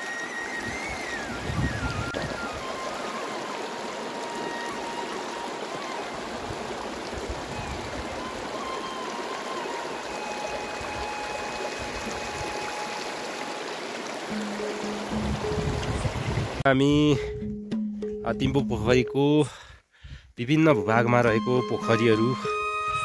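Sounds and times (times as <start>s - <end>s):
stream water running: 0.0s - 16.7s, 20.8s - 23.0s.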